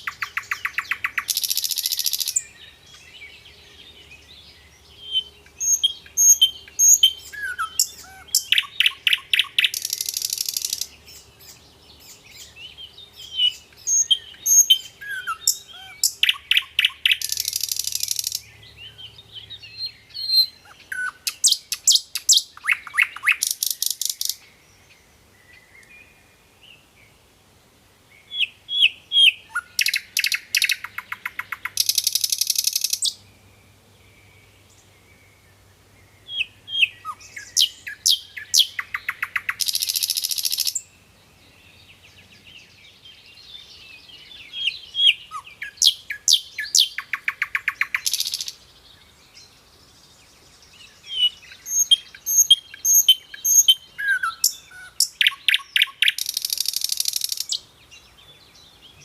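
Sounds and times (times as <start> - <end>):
nightingale singing: 0.0 - 27.2, 28.1 - 59.0.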